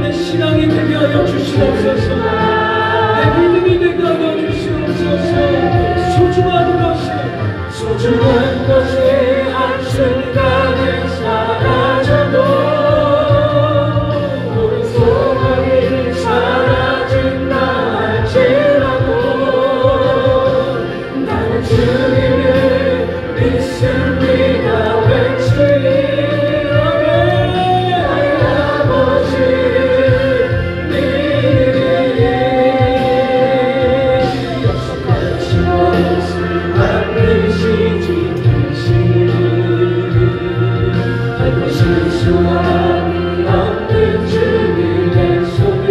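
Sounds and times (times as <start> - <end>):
choir singing gospel song: 0.0 - 45.9
sustained accompaniment: 0.0 - 45.9.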